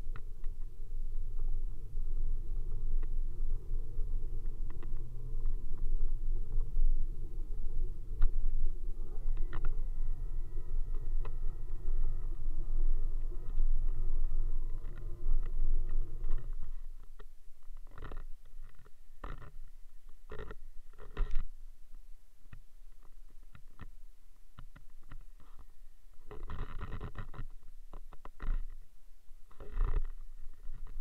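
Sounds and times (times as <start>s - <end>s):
faint multi-tone whine: 0.0s - 31.0s
wind and road rumble: 0.0s - 31.0s.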